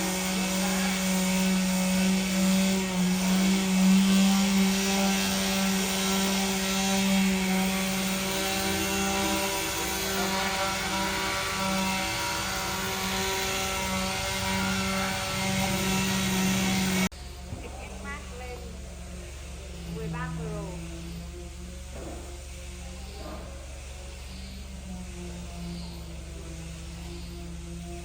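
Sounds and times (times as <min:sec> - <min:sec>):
large machine droning hum: 0:00.0 - 0:28.0.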